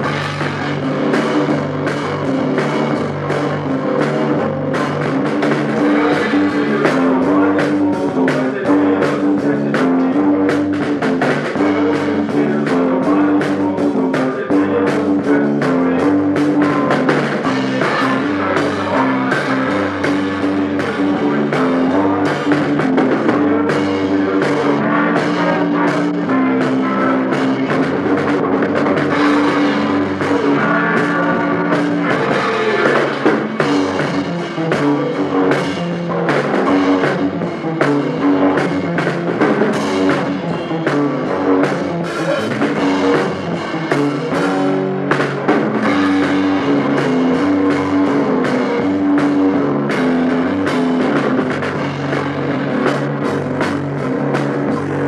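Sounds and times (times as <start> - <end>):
bass guitar: 0.0 - 55.0
drum kit: 0.0 - 55.0
electric guitar: 0.0 - 55.0
rock band playing: 0.0 - 55.0.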